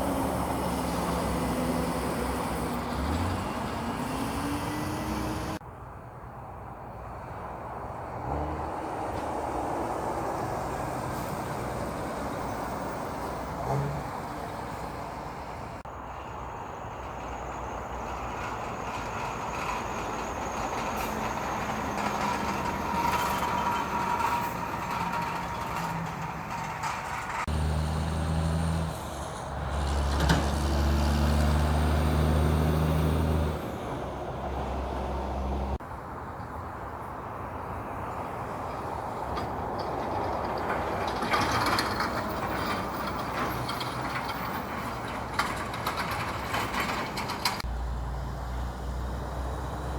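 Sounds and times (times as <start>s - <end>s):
truck diesel engine close: 0.0s - 5.6s, 7.0s - 36.3s, 37.3s - 49.9s
heavy trucks passing: 0.0s - 49.9s.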